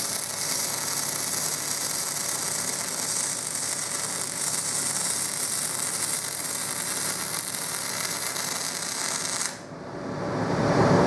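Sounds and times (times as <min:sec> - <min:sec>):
welding arc hissing and crackling: 0:00.0 - 0:09.7.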